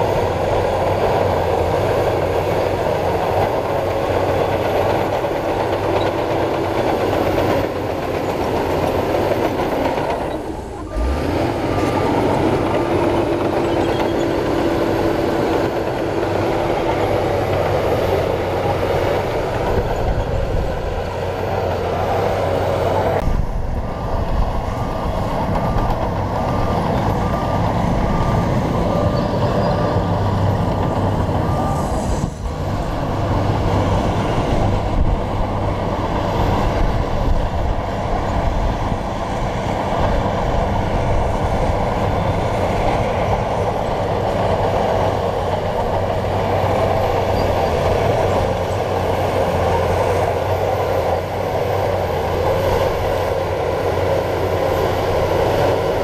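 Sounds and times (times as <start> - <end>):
bulldozer diesel engine under load: 0.0 - 56.0
bulldozer pushing stone and soil: 0.0 - 56.0.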